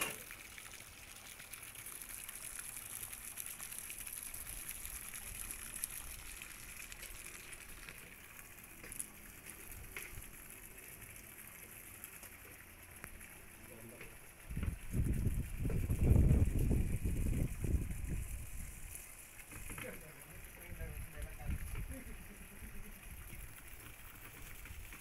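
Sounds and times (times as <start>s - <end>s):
small splashes: 0.0s - 25.0s
water lapping against boats: 0.0s - 25.0s.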